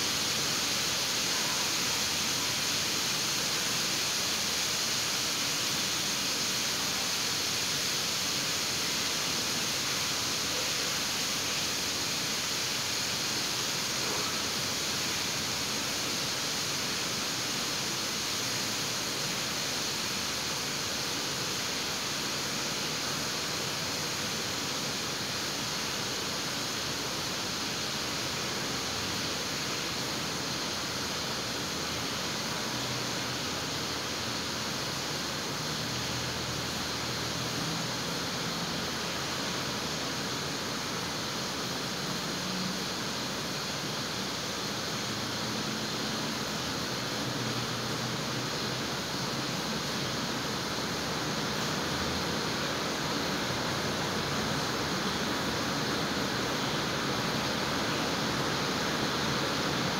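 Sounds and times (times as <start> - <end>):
heavy rain on ground and puddles: 0.0 - 59.9.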